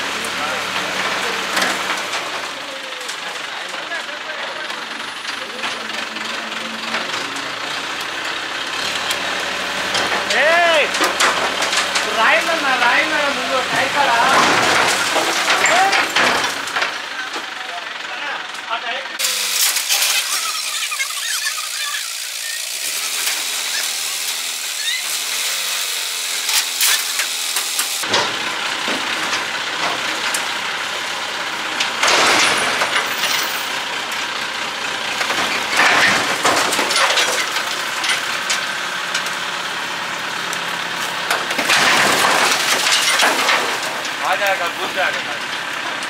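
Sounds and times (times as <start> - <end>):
heavy vehicle engine running: 0.0 - 46.0
roadside noise: 0.0 - 46.0.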